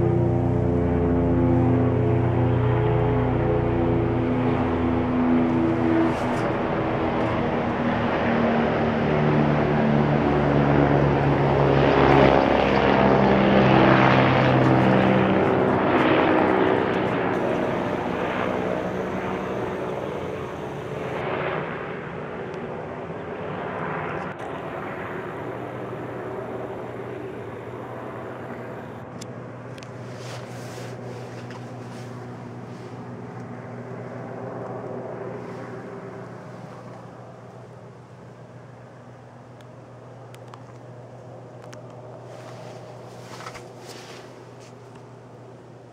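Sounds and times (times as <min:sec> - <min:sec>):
helicopter passing overhead: 0:00.0 - 0:45.9.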